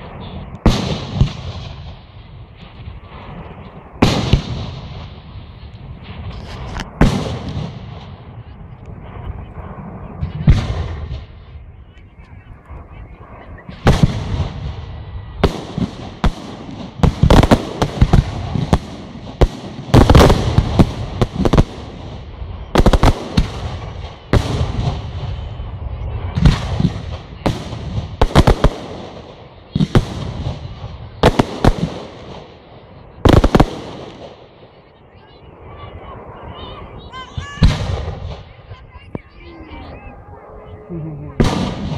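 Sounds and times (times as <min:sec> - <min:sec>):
fireworks bursting with loud bangs: 0:00.0 - 0:39.4, 0:41.3 - 0:41.9.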